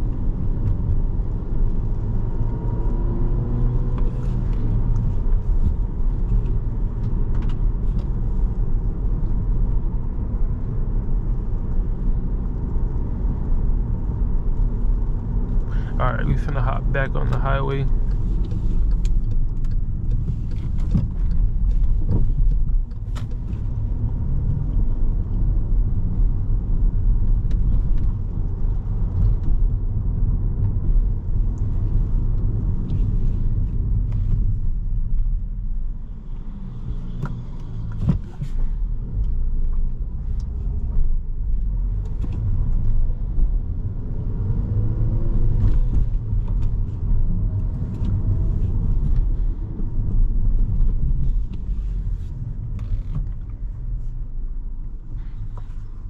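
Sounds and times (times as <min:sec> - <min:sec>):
car engine rumble in cabin: 0:00.0 - 0:56.0.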